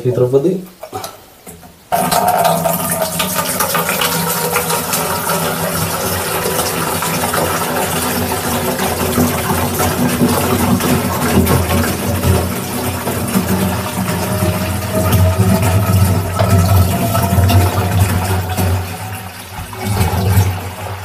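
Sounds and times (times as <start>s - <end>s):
water pouring through a funnel: 1.9s - 21.0s.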